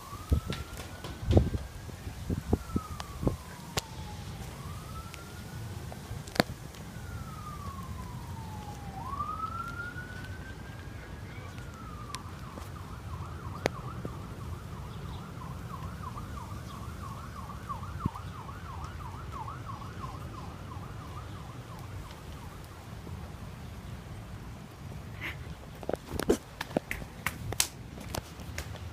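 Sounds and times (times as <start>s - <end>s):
emergency vehicle siren: 0.0s - 23.7s.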